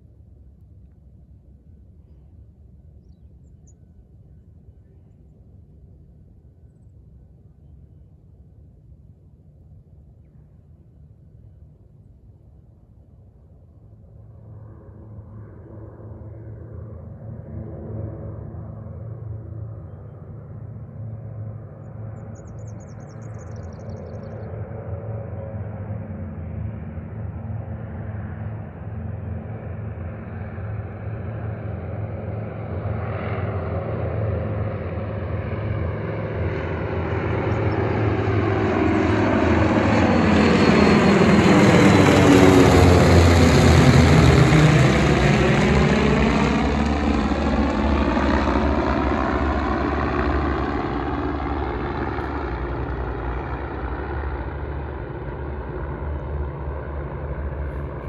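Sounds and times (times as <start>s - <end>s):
propeller aircraft passing by: 0.0s - 58.0s.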